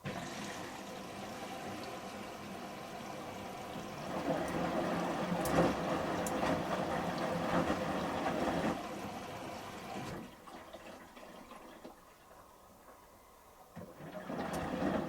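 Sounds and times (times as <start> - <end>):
washing machine drum sloshing: 0.0 - 12.8, 13.7 - 15.0.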